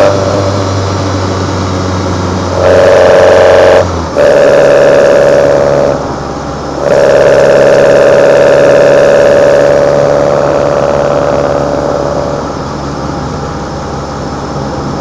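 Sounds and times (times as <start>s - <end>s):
engine induction roar: 0.0s - 15.0s.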